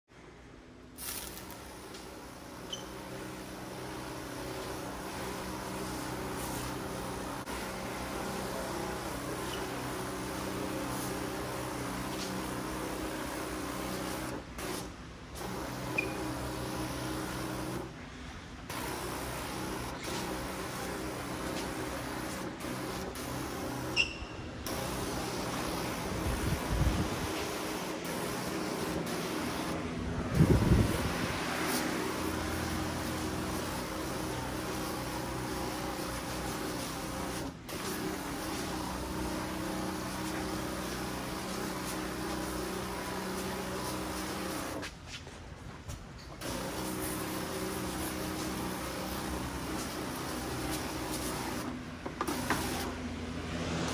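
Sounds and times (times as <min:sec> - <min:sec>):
hiss of spray: 0:01.0 - 0:17.8, 0:18.7 - 0:24.0, 0:24.6 - 0:29.8, 0:30.4 - 0:44.9, 0:46.4 - 0:53.0
sprayer motor hum: 0:01.1 - 0:14.8, 0:15.4 - 0:17.9, 0:18.7 - 0:44.8, 0:46.4 - 0:53.0.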